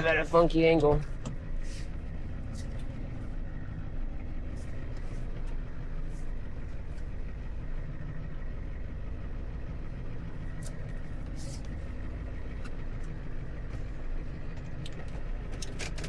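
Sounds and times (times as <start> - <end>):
tow truck engine running: 0.0 - 16.0.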